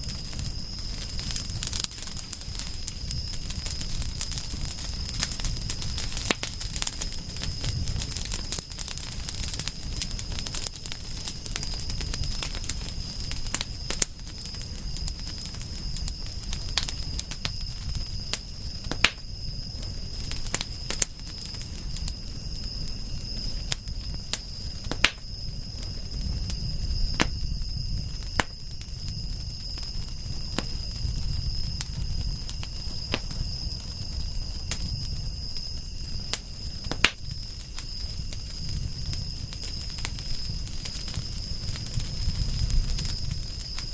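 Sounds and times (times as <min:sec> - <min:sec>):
campfire wood crackling: 0:00.0 - 0:43.9.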